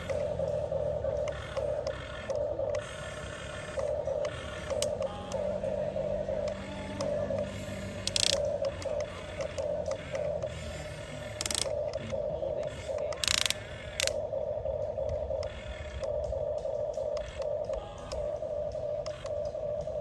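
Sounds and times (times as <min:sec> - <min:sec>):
electric gear motors whining: 0:00.0 - 0:20.0.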